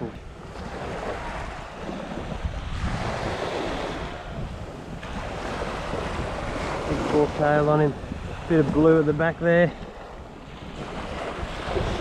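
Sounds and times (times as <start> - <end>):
small waves washing on sand: 0.0 - 12.0
wind rumbling on microphone: 0.0 - 12.0.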